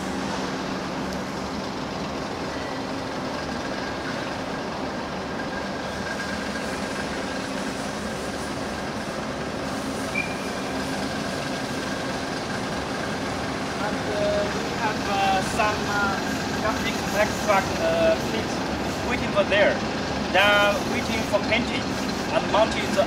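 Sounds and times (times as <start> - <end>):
machinery rumbling: 0.0 - 23.0.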